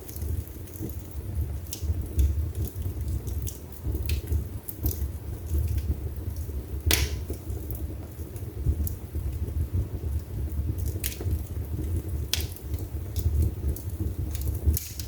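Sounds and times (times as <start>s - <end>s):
wood fire burning in fireplace: 0.0s - 15.0s.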